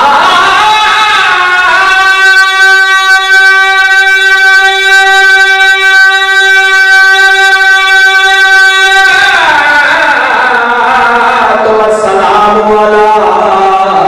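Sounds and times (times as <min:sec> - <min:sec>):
man singing amplified: 0:00.0 - 0:14.0.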